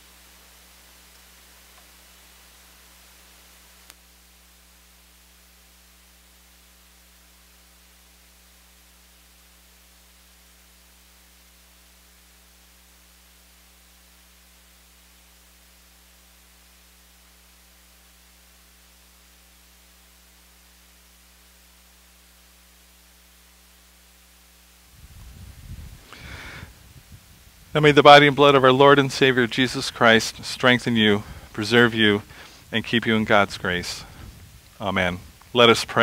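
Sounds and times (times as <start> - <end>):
faint mains hum with hiss: 0.0 - 36.0.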